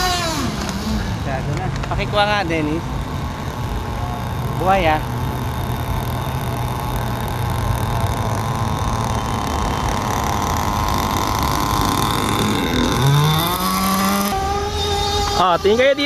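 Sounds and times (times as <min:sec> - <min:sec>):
model speedboat motor running: 0:00.0 - 0:16.0.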